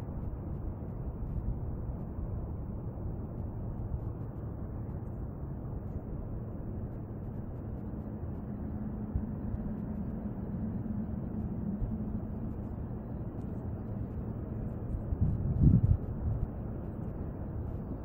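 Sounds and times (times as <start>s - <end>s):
faint hum: 0.0s - 18.0s
low outdoor rumble: 0.0s - 18.0s.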